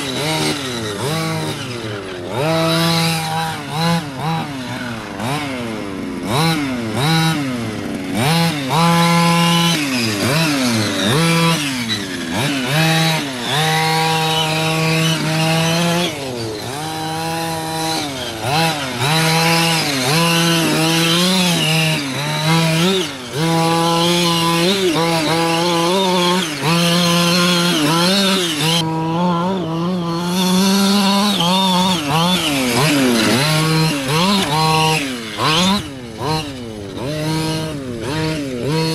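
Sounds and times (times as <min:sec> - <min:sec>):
rc truck engine revving: 0:00.0 - 0:38.9.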